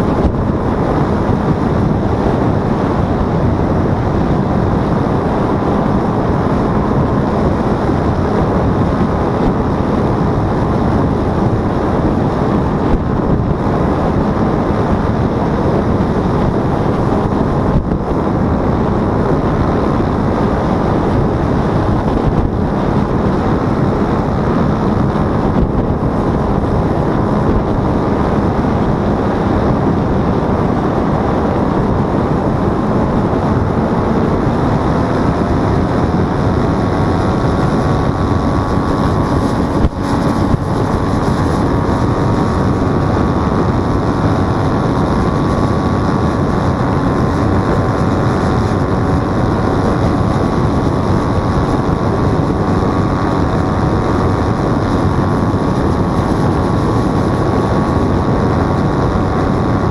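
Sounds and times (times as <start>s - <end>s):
paramotor engine and propeller: 0.0s - 59.9s
wind rushing over microphone: 0.0s - 59.9s.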